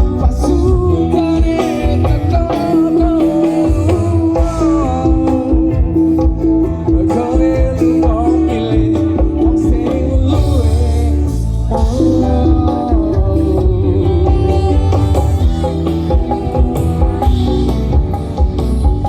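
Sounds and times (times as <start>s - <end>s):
live dance band music: 0.0s - 19.0s.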